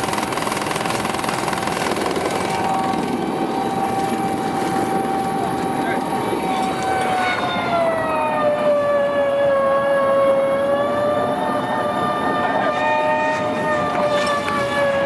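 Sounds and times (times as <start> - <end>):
helicopter engine whine: 0.0 - 15.0.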